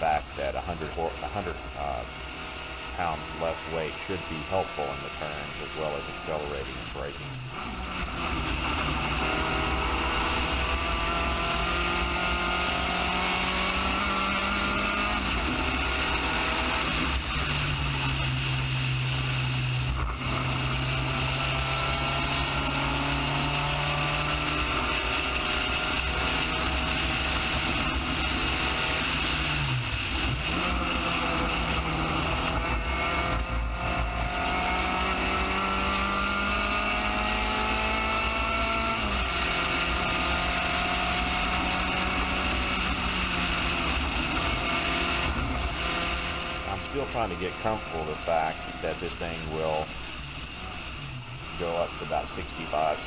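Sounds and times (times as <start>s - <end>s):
race car engine at speed: 0.0s - 53.0s.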